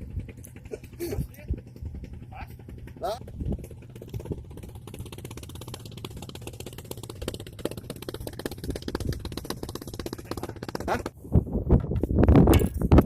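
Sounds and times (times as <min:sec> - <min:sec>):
small engine ticking: 0:00.0 - 0:11.1.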